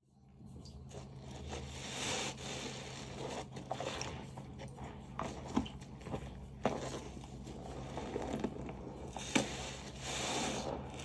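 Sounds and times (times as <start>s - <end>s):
soapy sponge being squeezed: 0.7s - 11.0s.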